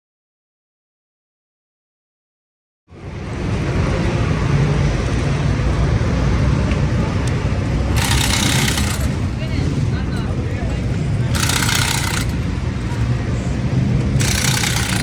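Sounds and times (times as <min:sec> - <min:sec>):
vehicle engine rumble: 0:02.9 - 0:15.0.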